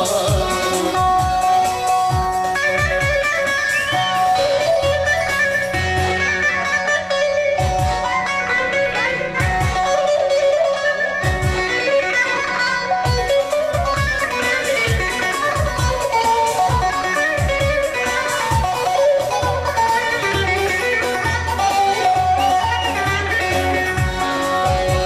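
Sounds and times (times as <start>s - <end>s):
plucked string melody: 0.0s - 25.0s.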